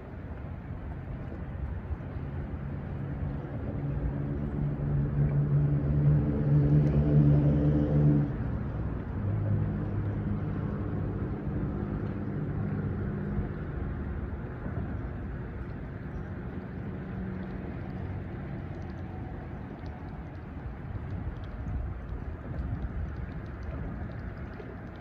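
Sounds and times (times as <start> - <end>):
distant engine droning: 0.8 - 25.0.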